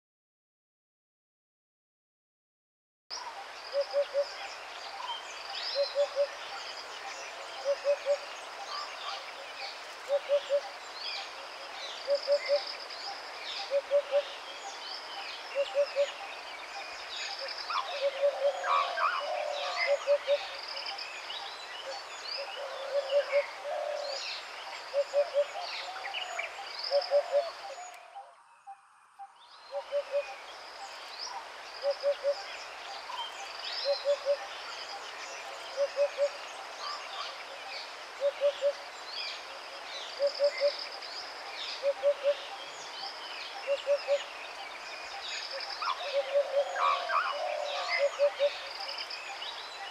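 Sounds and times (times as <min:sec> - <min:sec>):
birds chirping: 0:03.7 - 0:49.9.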